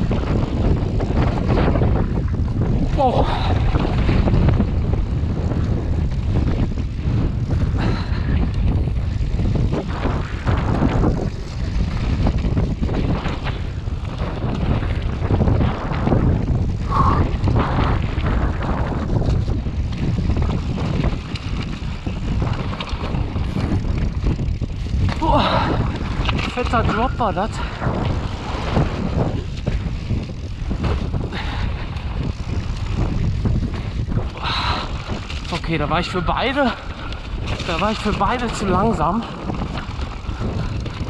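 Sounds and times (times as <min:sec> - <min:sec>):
bike knocks and rattles: 0:00.0 - 0:41.0
bike rumble on rough trail: 0:00.0 - 0:41.0
wind on microphone: 0:00.0 - 0:41.0.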